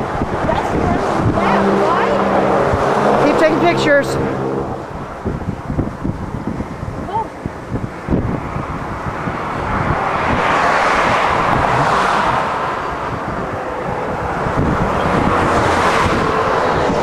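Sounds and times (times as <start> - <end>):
highway traffic passing: 0.0 - 17.0
wind buffeting microphone: 0.0 - 17.0.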